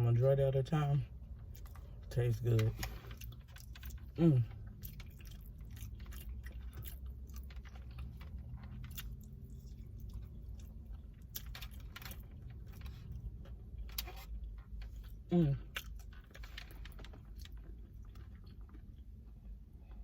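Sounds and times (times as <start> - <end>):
low steady hum: 0.0 - 20.0
person chewing crunchy food: 1.4 - 20.0.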